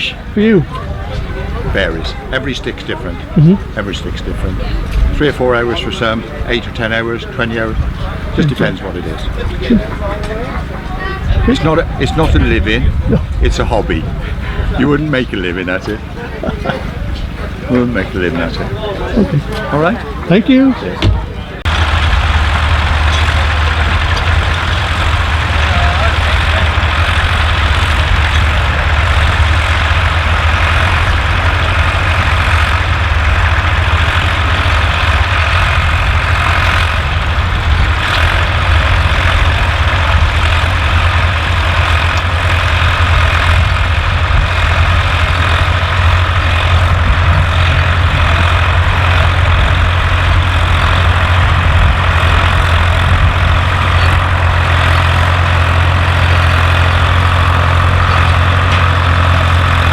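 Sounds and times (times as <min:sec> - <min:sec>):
large engine idling: 0:00.0 - 0:59.9.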